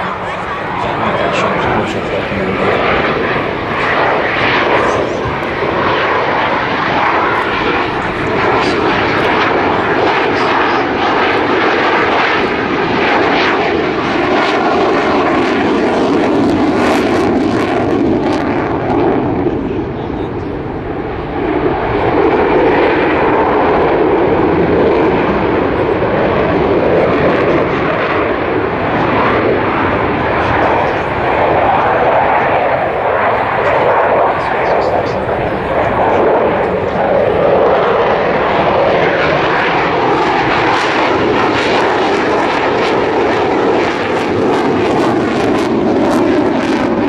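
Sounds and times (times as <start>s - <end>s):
fighter jet roar: 0.0s - 47.0s.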